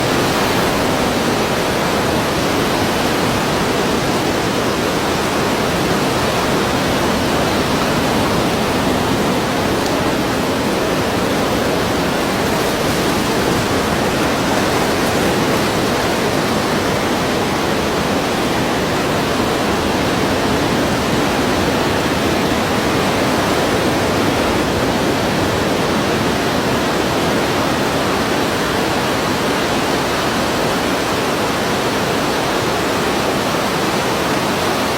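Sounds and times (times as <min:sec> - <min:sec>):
surf roaring: 0:00.0 - 0:34.9.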